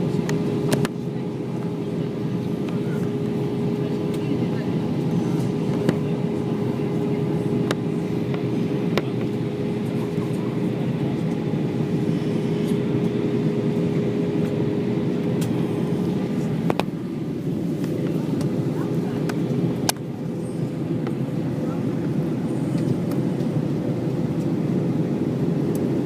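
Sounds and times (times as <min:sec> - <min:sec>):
rush of engines and airflow: 0:00.0 - 0:26.0
steady cabin hum: 0:00.0 - 0:26.0.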